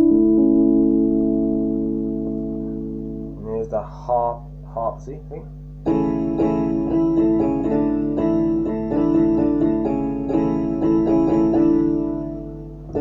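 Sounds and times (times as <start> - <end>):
harpsichord keyboard chords: 0.0 - 4.9, 5.7 - 13.0.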